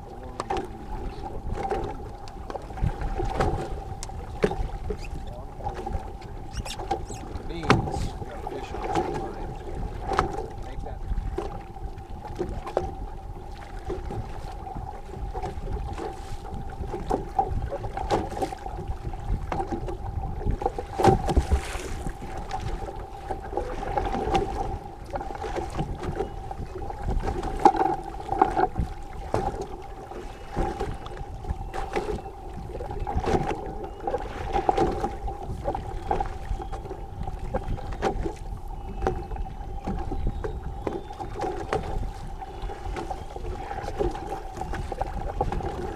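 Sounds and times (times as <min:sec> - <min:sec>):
boat engine running: 0:00.0 - 0:45.9.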